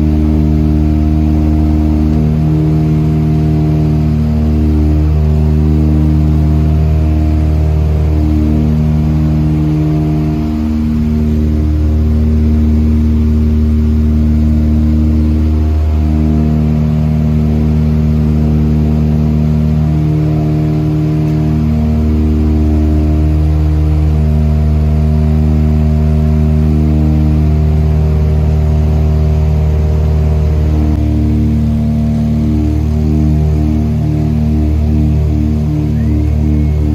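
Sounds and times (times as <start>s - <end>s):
propeller engines droning in cockpit: 0.0s - 36.9s.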